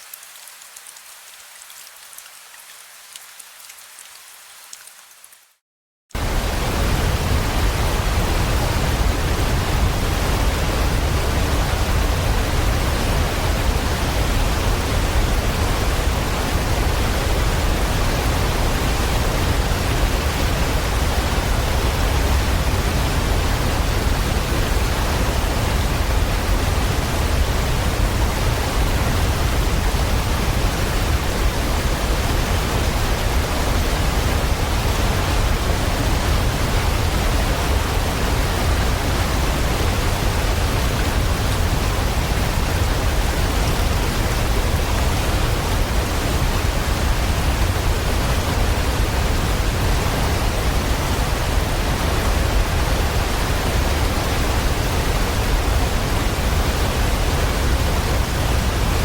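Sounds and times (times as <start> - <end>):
steady rainfall: 0.0 - 5.6, 6.2 - 59.0.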